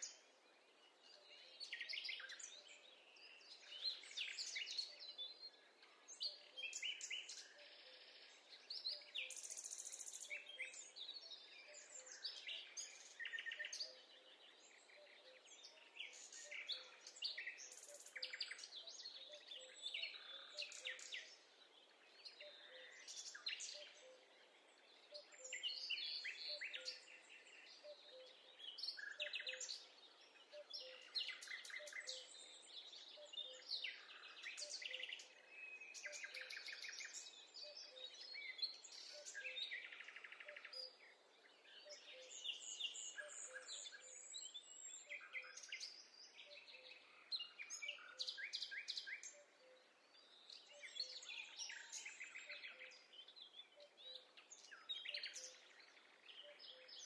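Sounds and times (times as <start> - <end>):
birds singing and trilling: 0.0 - 57.0.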